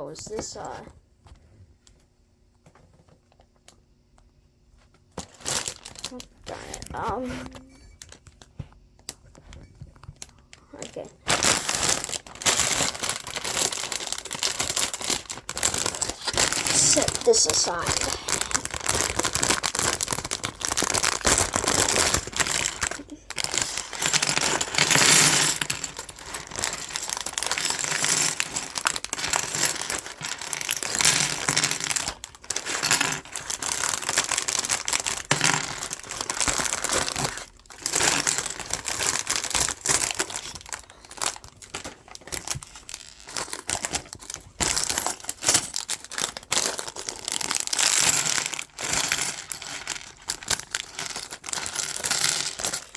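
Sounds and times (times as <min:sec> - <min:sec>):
plastic bags crinkling: 0:05.2 - 0:08.2, 0:10.1 - 0:52.9
plastic bricks clicking and rattling: 0:10.2 - 0:52.9.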